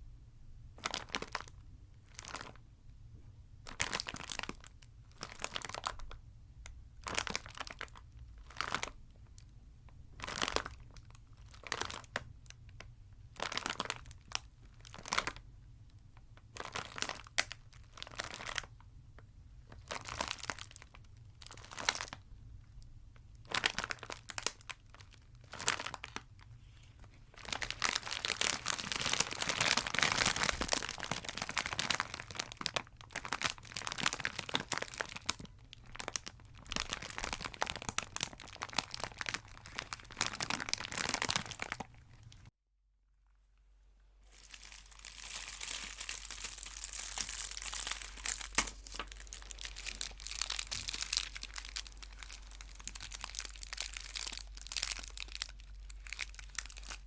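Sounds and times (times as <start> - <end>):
wrappers crinkling: 2.1 - 2.6, 3.7 - 6.1, 7.0 - 9.0, 10.2 - 12.3, 13.3 - 15.4, 16.5 - 18.7, 19.7 - 22.2, 23.4 - 42.5, 44.2 - 57.0.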